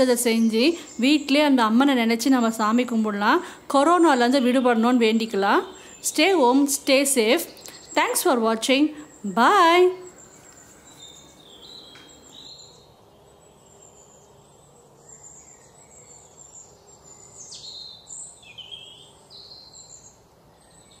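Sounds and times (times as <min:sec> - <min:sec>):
birds chirping and whistling: 0:03.4 - 0:21.0.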